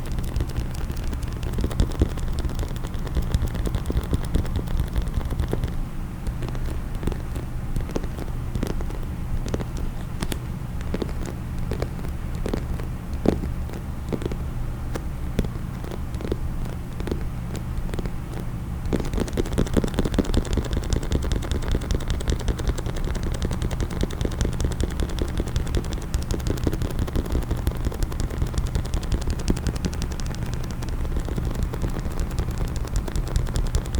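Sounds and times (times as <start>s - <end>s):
fingers tapping a hard case: 0.0s - 33.9s.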